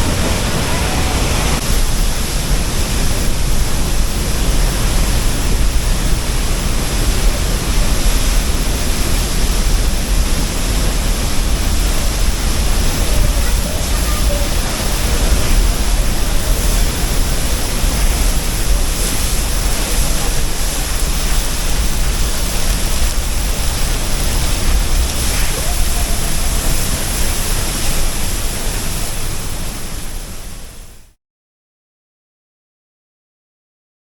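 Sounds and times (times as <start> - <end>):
waterfall roaring: 0.0 - 31.1.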